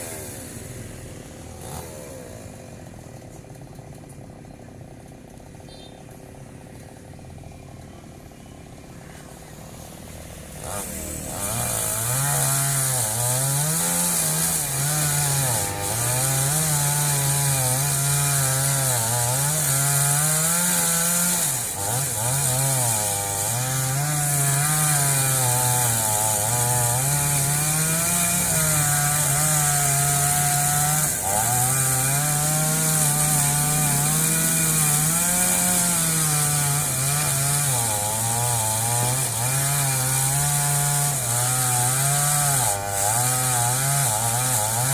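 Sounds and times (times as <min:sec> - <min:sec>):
chainsaw cutting wood: 0:00.0 - 0:08.3, 0:09.2 - 0:44.9.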